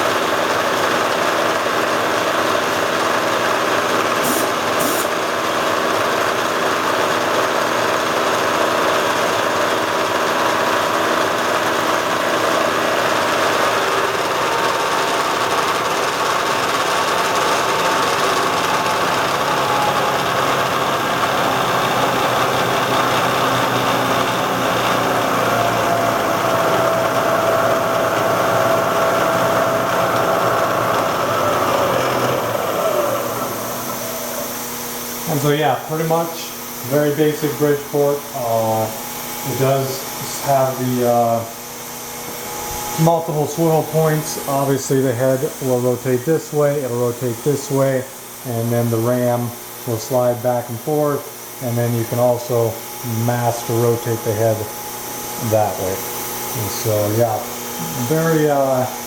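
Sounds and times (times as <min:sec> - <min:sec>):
milling machine humming: 0:00.0 - 0:59.0.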